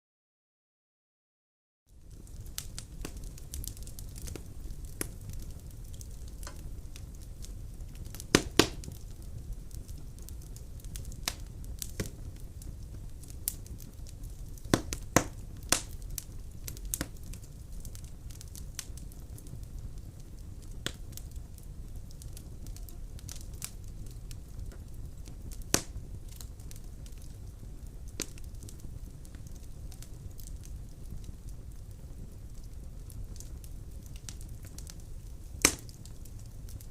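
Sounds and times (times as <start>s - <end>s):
wood fire crackling and popping: 1.9s - 36.9s.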